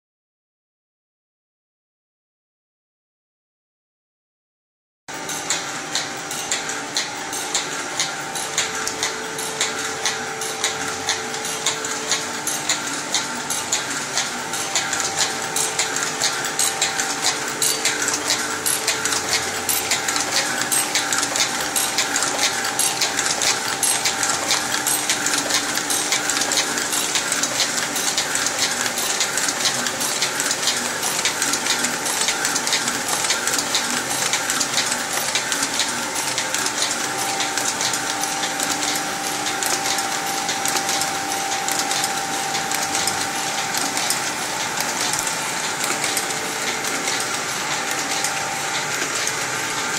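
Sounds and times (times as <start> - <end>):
machine clattering: 5.2 - 49.9.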